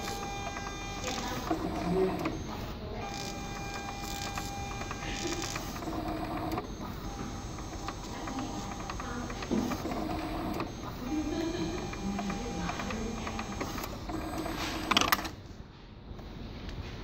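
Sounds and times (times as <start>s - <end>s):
card printer motor whine with clicks: 0.0s - 15.4s.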